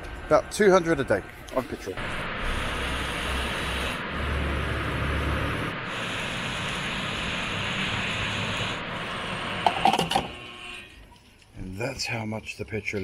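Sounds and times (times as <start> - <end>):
low traffic rumble: 0.0 - 12.8.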